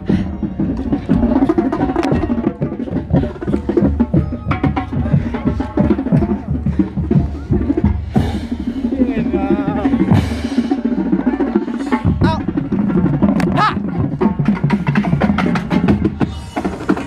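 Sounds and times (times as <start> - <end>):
marching drums: 0.0 - 17.0.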